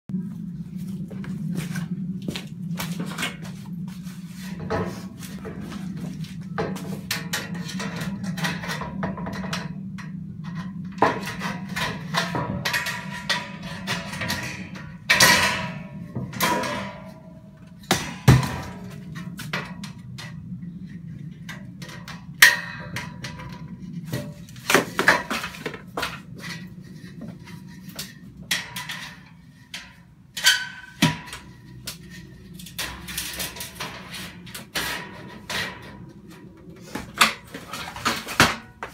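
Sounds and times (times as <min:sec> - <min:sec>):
steady low hum: 0:00.1 - 0:38.9.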